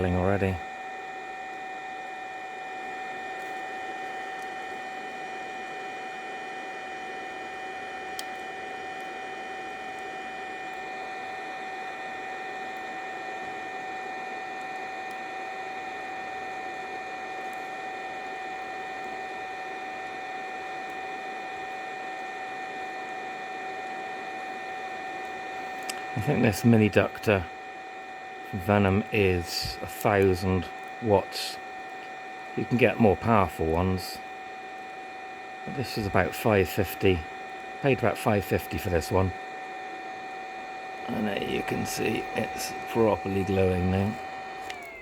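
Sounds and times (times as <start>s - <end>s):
induction heater whine: 0.0s - 45.0s.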